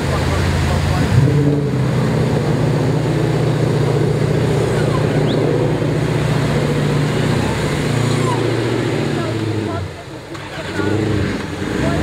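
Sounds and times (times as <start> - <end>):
off-road vehicle engine droning: 0.0 - 12.0.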